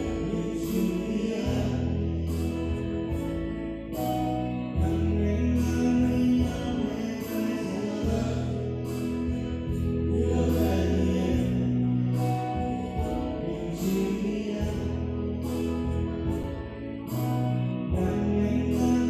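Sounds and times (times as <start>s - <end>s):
bass line: 0.0s - 19.0s
electronic keyboards: 0.0s - 19.0s.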